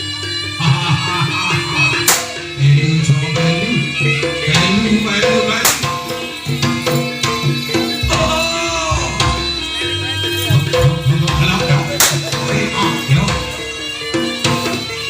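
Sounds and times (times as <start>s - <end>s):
wavering melody line: 0.0s - 15.0s
hand drums beating quickly: 2.0s - 15.0s.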